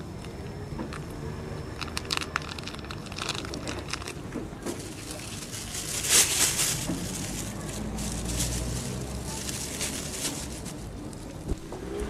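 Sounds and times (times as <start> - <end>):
cats crunching food: 0.0 - 11.5.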